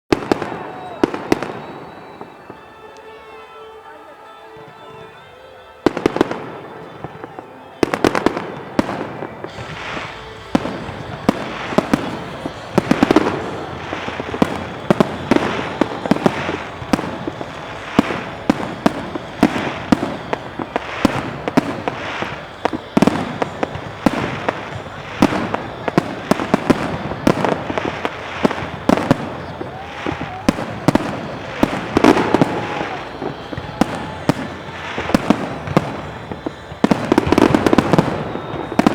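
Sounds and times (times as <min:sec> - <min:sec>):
fireworks bangs and crackles: 0:00.1 - 0:38.9.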